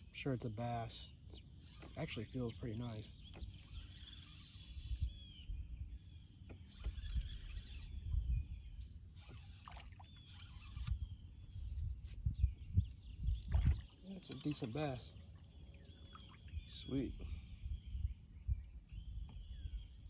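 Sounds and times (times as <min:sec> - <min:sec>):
crickets droning: 0:00.0 - 0:20.0.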